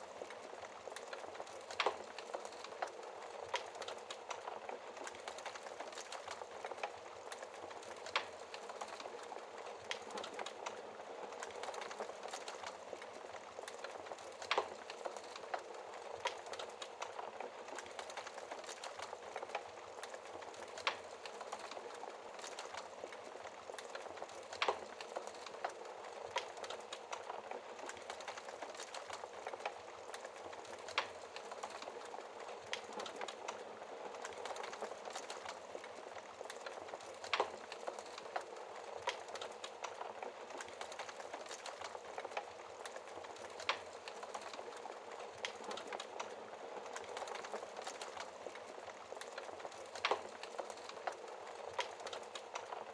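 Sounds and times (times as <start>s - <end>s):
wood fire crackling: 0.0s - 52.9s
fire popping: 0.1s - 52.9s.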